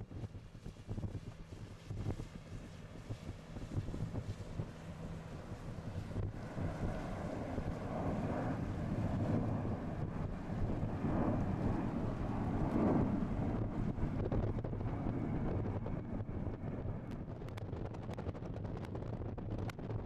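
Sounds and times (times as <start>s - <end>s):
wind buffeting microphone: 0.0s - 20.0s
jet engines rumbling: 0.1s - 20.0s.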